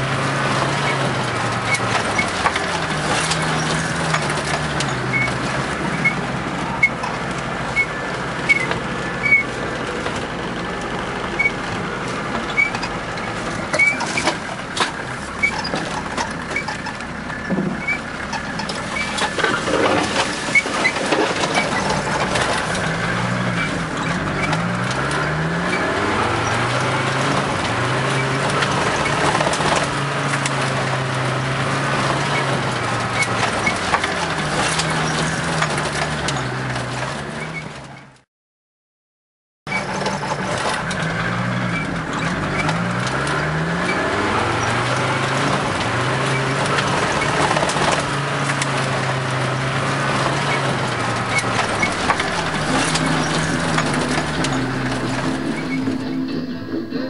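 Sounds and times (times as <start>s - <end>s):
vehicle engine revving: 0.0s - 37.5s, 39.8s - 56.2s.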